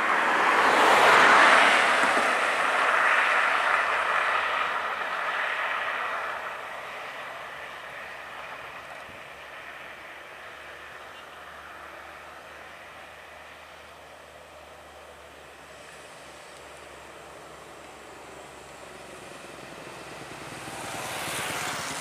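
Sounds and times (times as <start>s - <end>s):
vehicle passing by: 0.0s - 22.0s.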